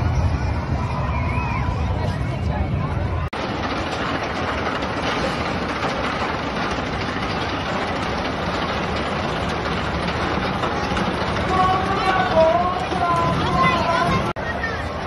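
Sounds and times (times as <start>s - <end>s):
roller coaster wheels rumbling: 0.0s - 15.0s.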